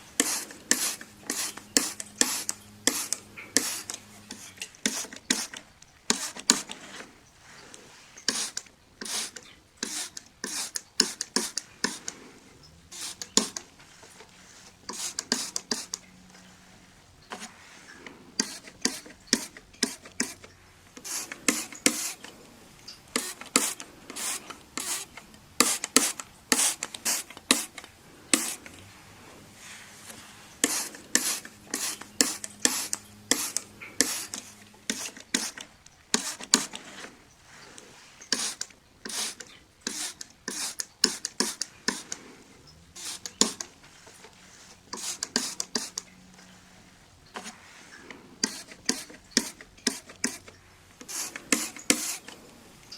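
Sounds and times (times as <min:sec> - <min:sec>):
rubbing on window glass: 0:00.0 - 0:52.5.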